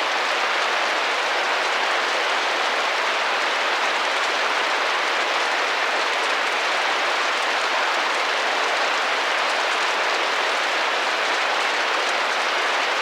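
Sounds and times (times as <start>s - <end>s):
rain on a window: 0.0s - 13.0s.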